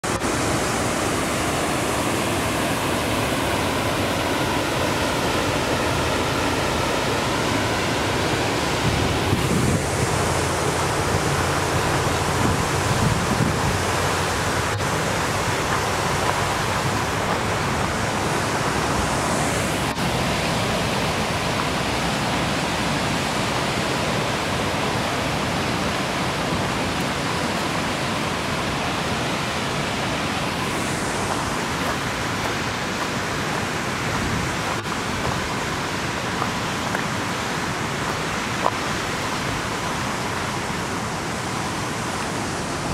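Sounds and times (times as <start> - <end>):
waterfall rushing: 0.0 - 42.9
wind buffeting microphone: 2.0 - 28.8, 30.1 - 42.9.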